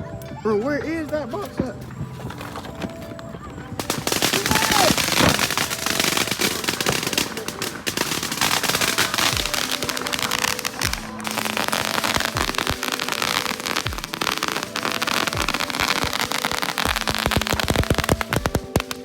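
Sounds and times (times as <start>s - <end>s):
fireworks crackling: 0.0s - 19.0s
hip-hop music with bass drops: 3.0s - 19.0s.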